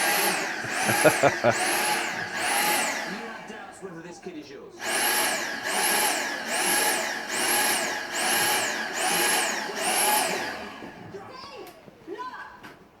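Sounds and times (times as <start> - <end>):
vacuum cleaner whine: 0.0 - 12.0.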